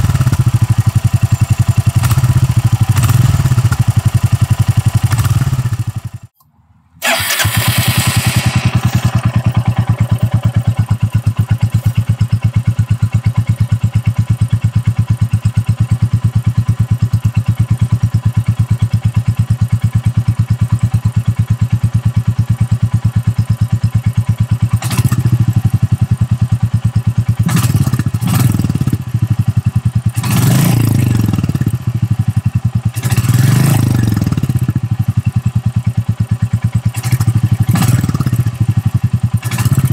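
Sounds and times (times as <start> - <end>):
motorcycle engine idling: 0.0 - 6.3, 7.1 - 39.9
motorcycle engine revving: 0.0 - 6.3, 7.0 - 39.9.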